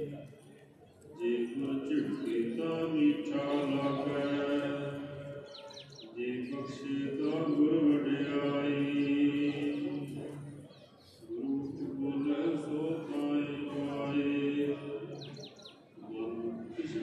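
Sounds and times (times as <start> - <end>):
devotional chanting: 0.0 - 0.5, 1.1 - 17.0
small birds chirping: 1.5 - 16.0.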